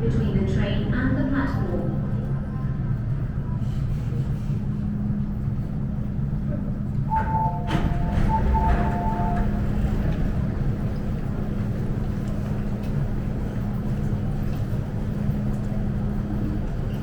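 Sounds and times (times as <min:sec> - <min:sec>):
train electrical hum: 0:00.0 - 0:17.0.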